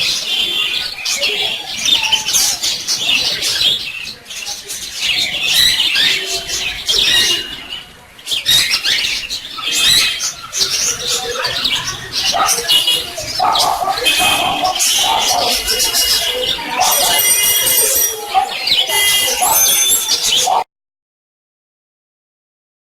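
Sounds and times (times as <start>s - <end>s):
small birds chirping: 0.0s - 20.7s.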